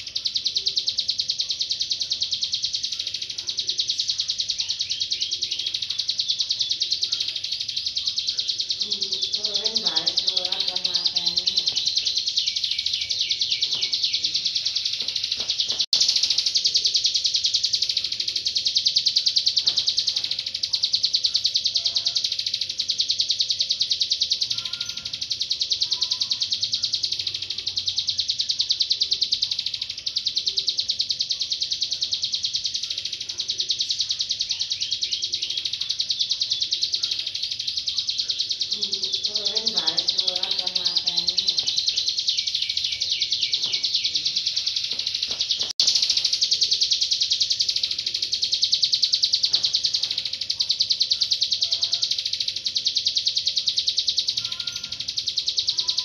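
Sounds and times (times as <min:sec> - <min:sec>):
bird trilling chatter: 0:00.0 - 0:56.0.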